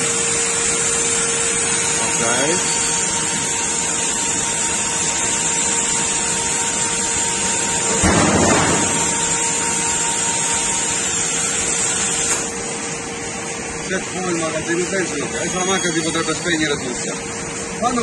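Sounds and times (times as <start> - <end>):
machine hissing and humming: 0.0 - 18.0.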